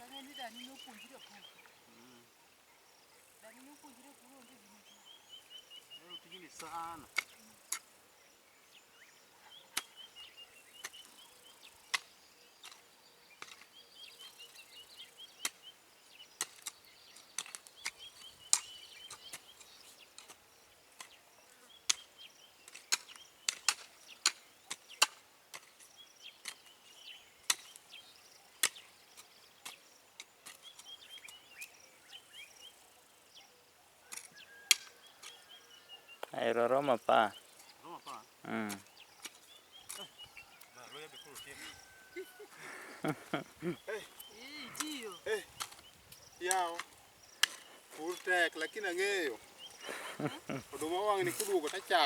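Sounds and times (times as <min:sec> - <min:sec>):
bird chirping: 0:00.0 - 0:25.2, 0:25.8 - 0:52.0.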